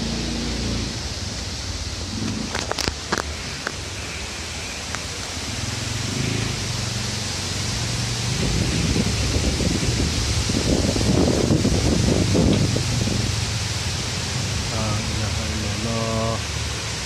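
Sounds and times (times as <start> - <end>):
leaves rustling: 0.0 - 17.0
wind in trees: 0.0 - 17.0.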